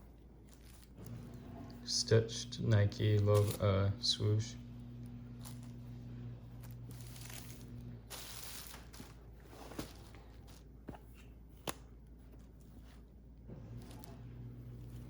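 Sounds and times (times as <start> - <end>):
clothing and packaging rustling: 0.0 - 1.9, 3.0 - 3.8, 5.0 - 15.0
low steady hum: 0.0 - 15.0.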